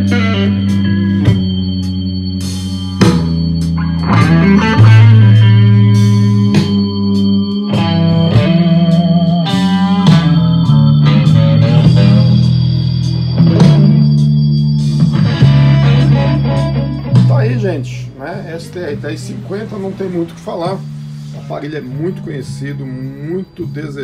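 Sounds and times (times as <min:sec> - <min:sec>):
guitar music over loudspeaker: 0:00.0 - 0:24.0.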